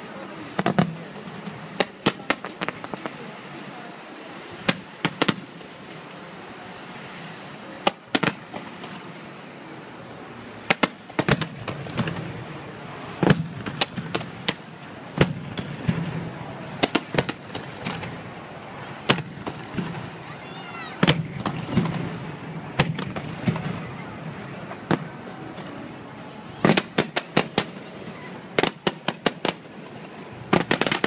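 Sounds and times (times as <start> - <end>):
fireworks bangs: 0.0 - 31.0
steady background hiss: 0.0 - 31.0.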